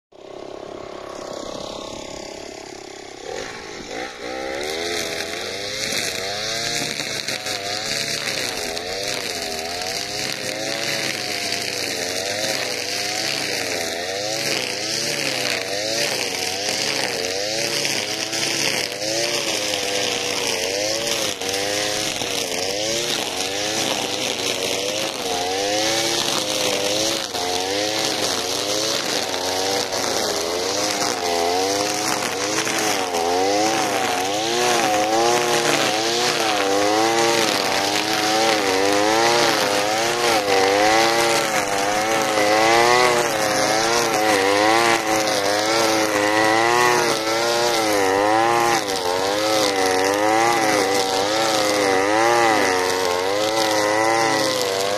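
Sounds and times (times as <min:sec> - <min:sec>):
brushcutter engine cutting weeds: 0:00.1 - 0:54.9.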